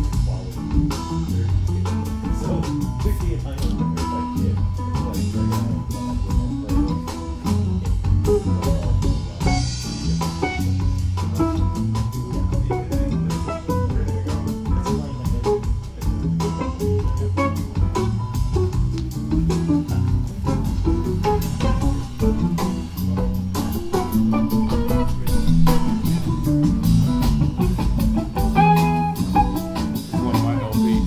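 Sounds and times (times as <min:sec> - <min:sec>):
music with bass and drums: 0:00.0 - 0:31.0.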